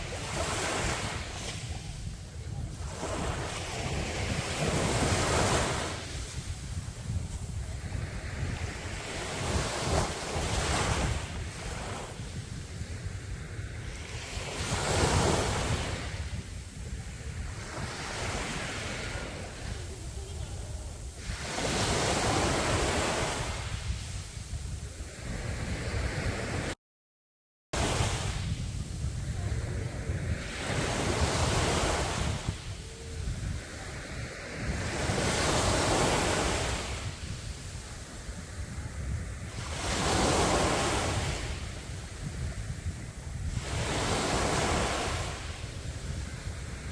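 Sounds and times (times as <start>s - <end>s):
sea waves breaking on a beach: 0.0s - 26.8s, 27.8s - 46.9s
wind buffeting the microphone: 0.0s - 26.8s, 27.8s - 46.9s.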